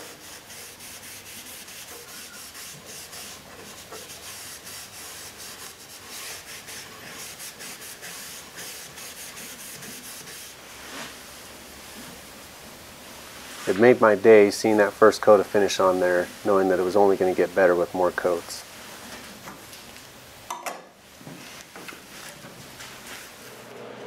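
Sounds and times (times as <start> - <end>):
cloth rubbing on wood: 0.0 - 12.3, 13.2 - 19.4, 21.1 - 23.6.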